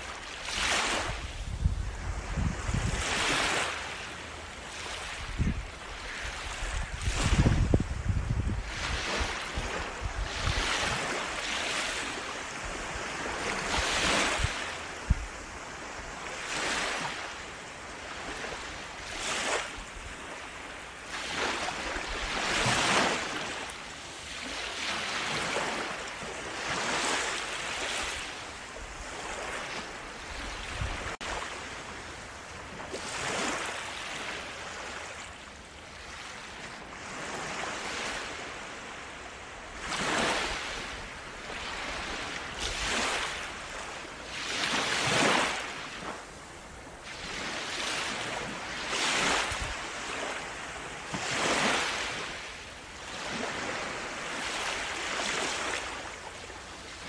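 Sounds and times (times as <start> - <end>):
small waves breaking on sand: 0.0 - 57.0.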